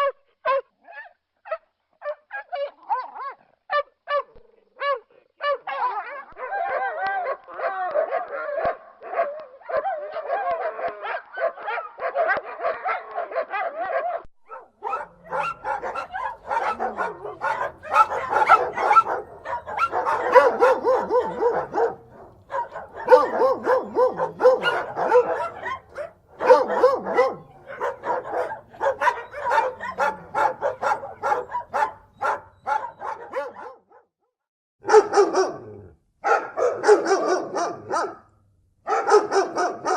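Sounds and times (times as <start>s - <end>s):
dogs barking and yapping: 0.0s - 34.1s, 34.8s - 38.3s, 38.9s - 39.9s.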